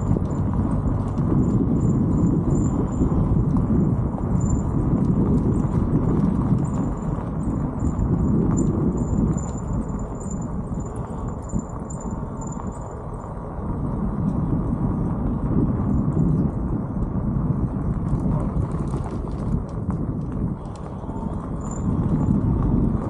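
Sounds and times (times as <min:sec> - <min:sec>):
bike tyres on gravel: 0:00.0 - 0:23.0
wind on microphone: 0:00.0 - 0:23.0.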